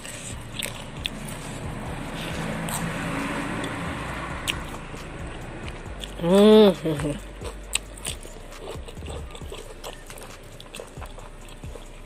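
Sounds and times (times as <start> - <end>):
motor vehicle passing by: 0.0 - 12.0.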